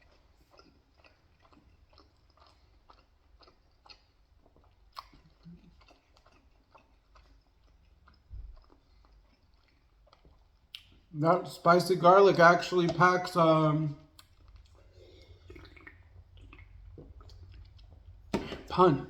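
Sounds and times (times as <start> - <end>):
quiet chewing: 0.0 - 19.0.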